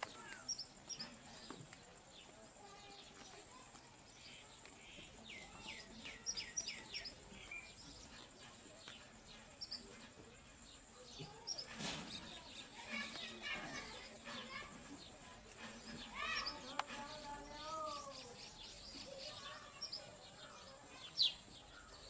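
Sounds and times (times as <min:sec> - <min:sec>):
sunbirds chirping and peeping: 0:00.0 - 0:22.0.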